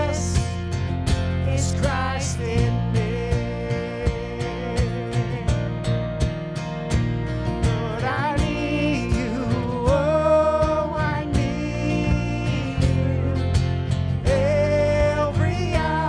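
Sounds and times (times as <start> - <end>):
steady drum beat: 0.0 - 16.0
worship song band: 0.0 - 16.0.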